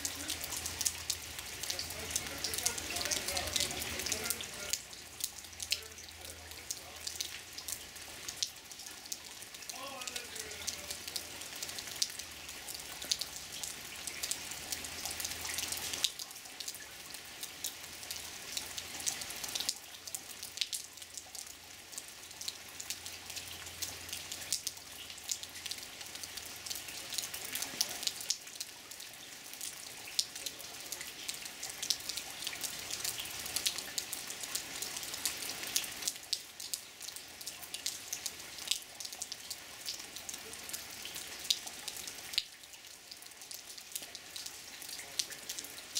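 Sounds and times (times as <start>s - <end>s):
rain pattering: 0.0s - 45.9s.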